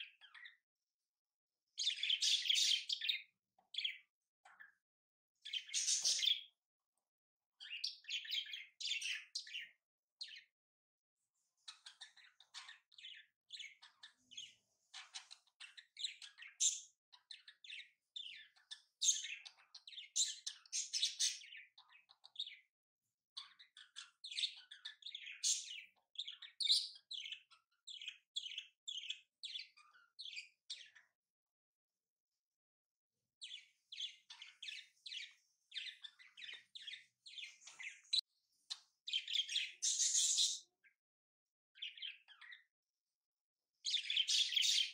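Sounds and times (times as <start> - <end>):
small birds chirping: 0.0 - 10.6, 11.2 - 32.5, 33.1 - 41.1, 41.7 - 43.0, 43.6 - 44.9.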